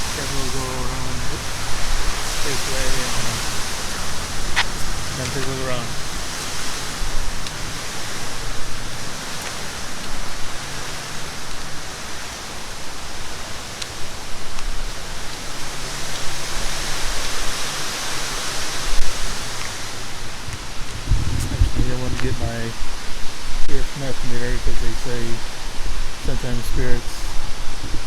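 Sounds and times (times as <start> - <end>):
low rumbles: 0.0 - 28.0
rushing outdoor noise: 0.0 - 28.0.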